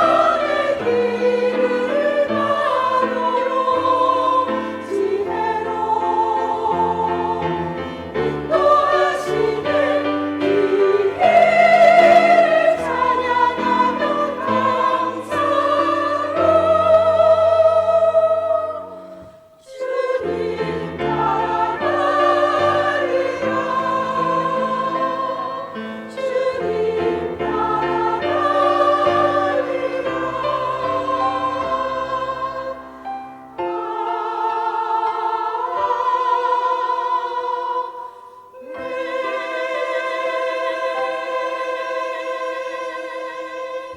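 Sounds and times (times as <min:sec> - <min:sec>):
church choir singing: 0:00.0 - 0:43.9.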